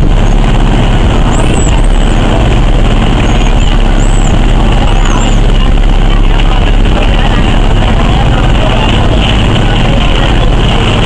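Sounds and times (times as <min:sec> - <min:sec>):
motorboat engine: 0:00.0 - 0:11.0
water rushing: 0:00.0 - 0:11.0.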